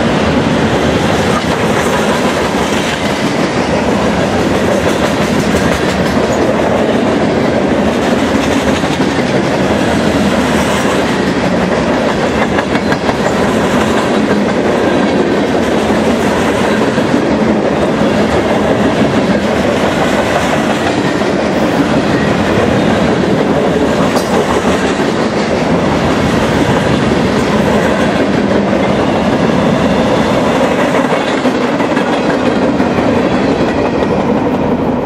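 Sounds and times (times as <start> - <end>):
freight train rumbling past: 0.0 - 35.0.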